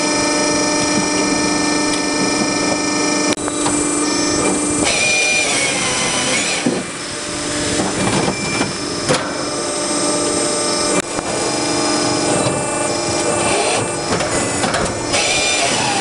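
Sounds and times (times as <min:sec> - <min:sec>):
firewood processor humming: 0:00.0 - 0:16.0.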